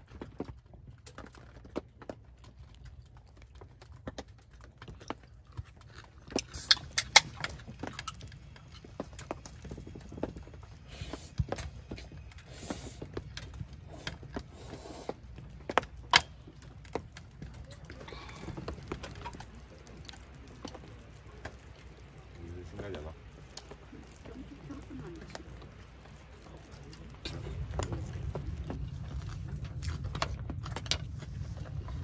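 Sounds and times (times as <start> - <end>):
steady low hum: 1.8 - 32.0.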